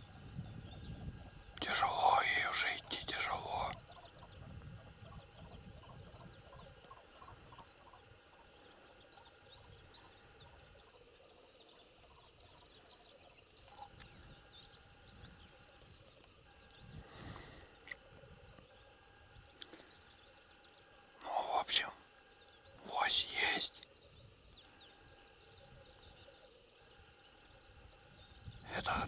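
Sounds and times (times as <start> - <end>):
distant birdsong: 0.0 - 29.0.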